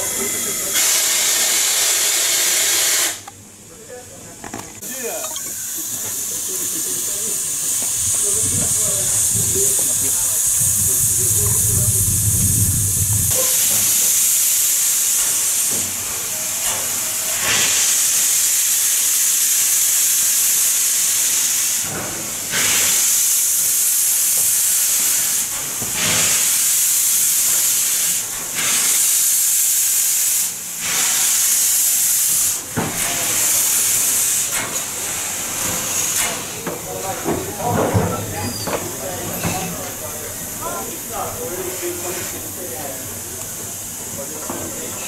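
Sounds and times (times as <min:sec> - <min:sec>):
steam locomotive hissing: 0:00.0 - 0:03.3, 0:04.8 - 0:45.0.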